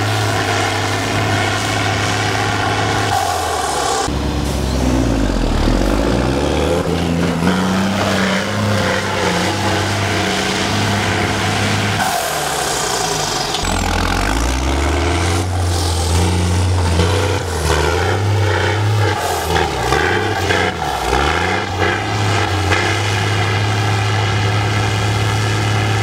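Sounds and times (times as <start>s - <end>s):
truck engine revving under load: 0.0s - 26.0s.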